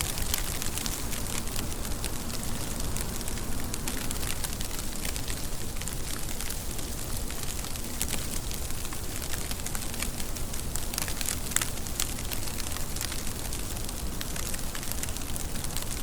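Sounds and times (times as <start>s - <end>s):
rain drops spattering on a surface: 0.0s - 16.0s.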